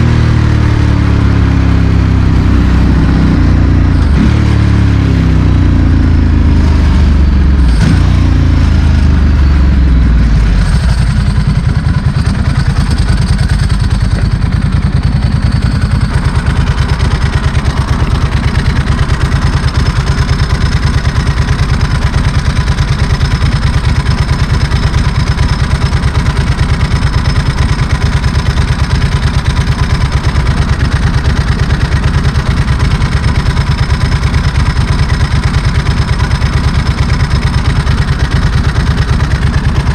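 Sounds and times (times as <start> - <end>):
motorcycle engine slowing and idling: 0.0 - 39.9.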